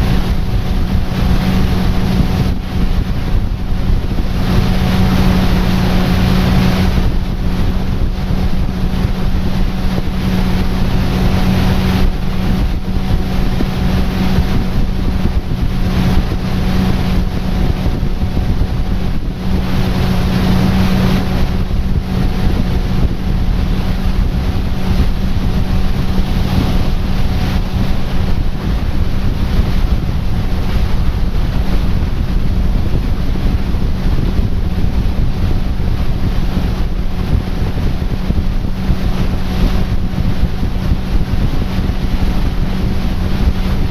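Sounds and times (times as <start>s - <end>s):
outboard motor humming: 0.0s - 43.9s
wind buffeting microphone: 0.0s - 43.9s.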